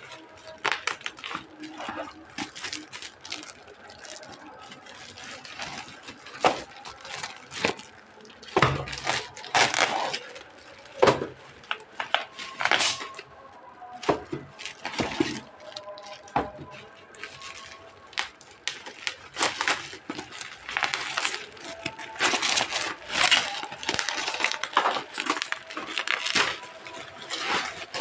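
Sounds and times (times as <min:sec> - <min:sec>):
packaging rustling: 0:00.0 - 0:28.0.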